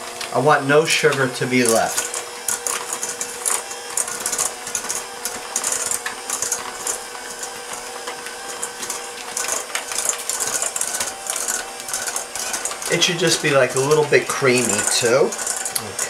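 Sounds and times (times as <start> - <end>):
electric hand mixer humming: 0.0 - 16.0
beaters clicking against bowl: 1.1 - 16.0.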